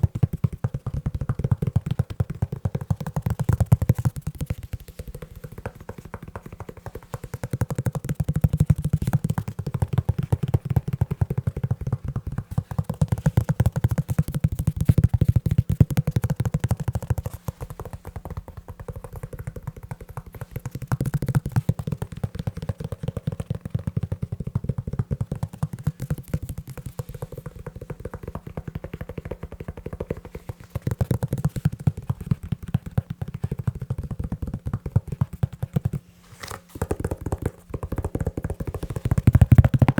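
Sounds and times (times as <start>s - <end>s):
tapping on leather shoe: 0.0s - 36.0s, 36.6s - 39.9s.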